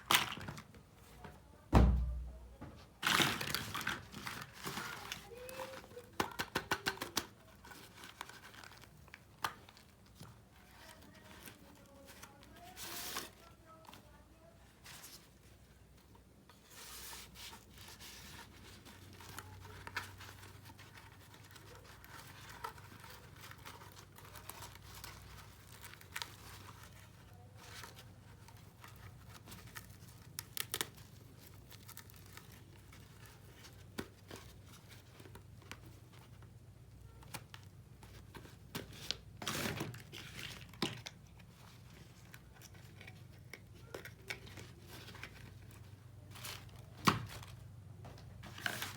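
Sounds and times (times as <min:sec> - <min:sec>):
packaging crinkling and tearing: 0:00.0 - 0:00.8, 0:03.0 - 0:13.9, 0:16.8 - 0:48.9.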